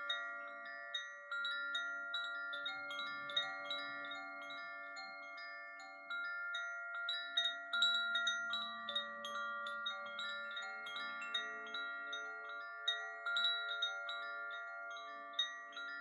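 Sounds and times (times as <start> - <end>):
gentle chime music: 0.0 - 16.0.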